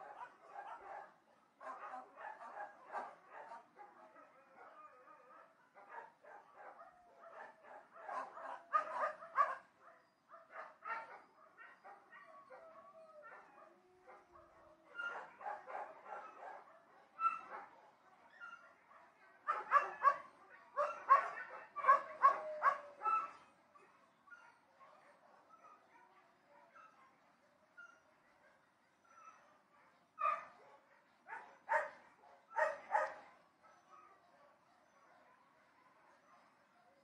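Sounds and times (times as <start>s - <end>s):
distant dogs barking: 0.0s - 37.0s.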